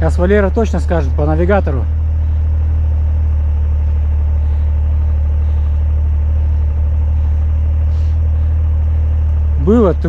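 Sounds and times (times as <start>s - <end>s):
snowmobile engine idling: 0.0s - 10.0s.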